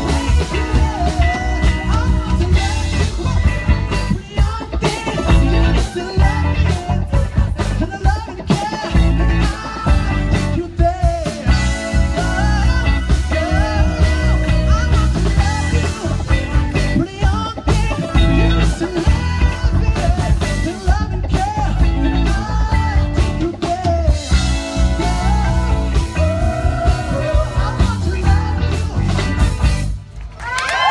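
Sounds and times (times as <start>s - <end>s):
man singing: 0.0s - 29.9s
keyboard: 0.0s - 30.2s
bass and drum beat: 0.0s - 30.9s
electric guitar: 0.0s - 30.9s.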